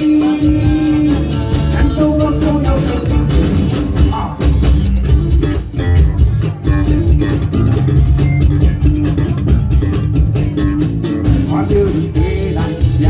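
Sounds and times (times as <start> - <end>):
live band instrumental: 0.0 - 13.0.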